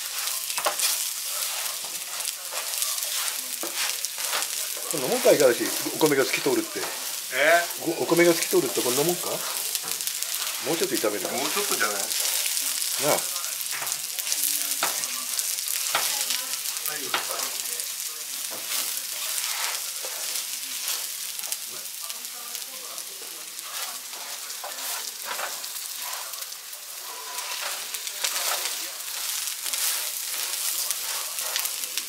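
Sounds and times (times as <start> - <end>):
spatula scraping and stirring: 0.0 - 21.9, 23.2 - 32.0
rice and onion sizzling in oil: 0.0 - 32.0.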